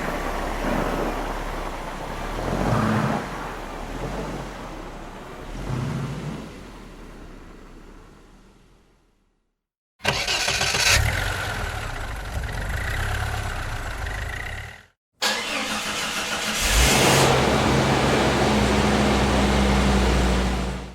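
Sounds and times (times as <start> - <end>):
car engine starting and running: 0.0 - 20.9.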